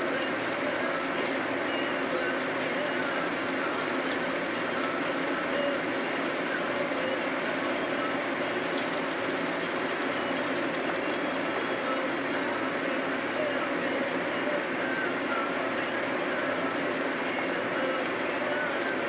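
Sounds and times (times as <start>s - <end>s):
steady mechanical noise: 0.0s - 19.0s.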